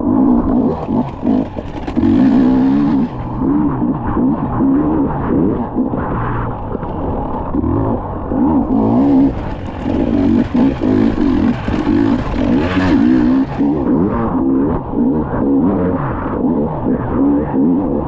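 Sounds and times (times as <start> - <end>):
dirt bike engine revving: 0.0 - 5.9, 7.5 - 17.8.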